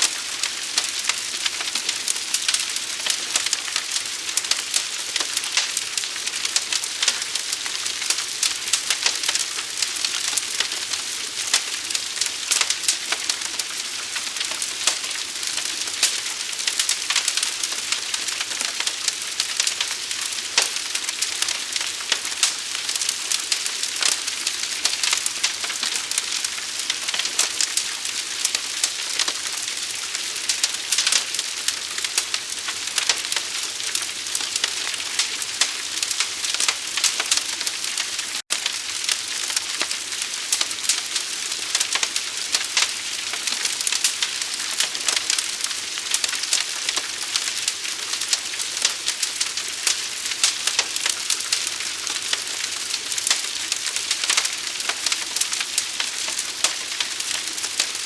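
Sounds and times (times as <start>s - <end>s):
forest fire crackling: 0.0s - 58.0s.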